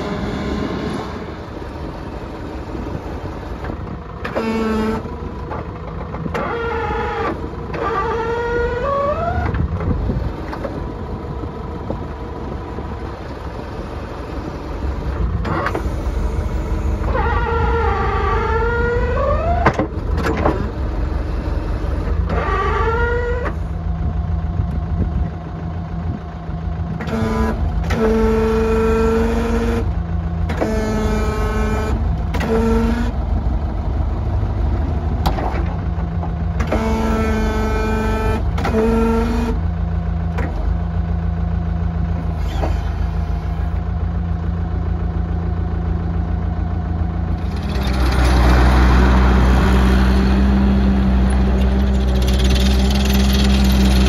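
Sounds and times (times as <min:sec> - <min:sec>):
hydraulic whine: 0:00.0 - 0:23.8, 0:26.9 - 0:40.8, 0:41.9 - 0:44.4, 0:46.3 - 0:54.0
diesel engine rumble: 0:00.0 - 0:54.0.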